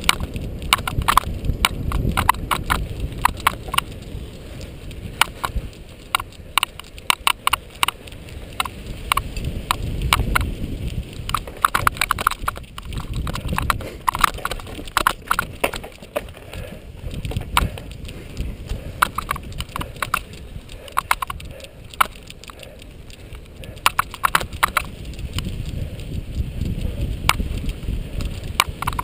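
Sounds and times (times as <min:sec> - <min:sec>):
bike rattling over bumps: 0:00.0 - 0:29.0
tyres rumbling on dirt: 0:00.0 - 0:29.0
wind on microphone: 0:00.0 - 0:29.0.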